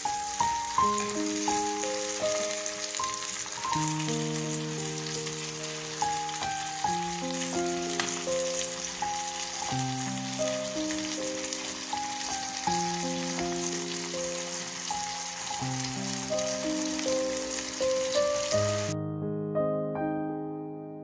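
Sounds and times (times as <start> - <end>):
shrimp sizzling in oil: 0.0 - 19.0
background music of held notes: 0.0 - 21.0.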